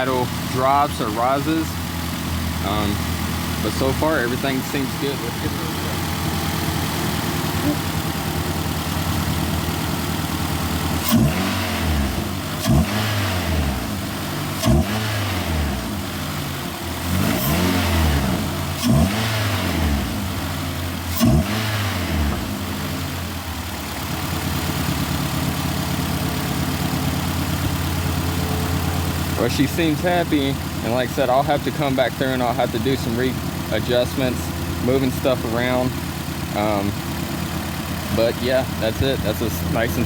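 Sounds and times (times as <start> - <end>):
car engine revving and idling: 0.0 - 40.0.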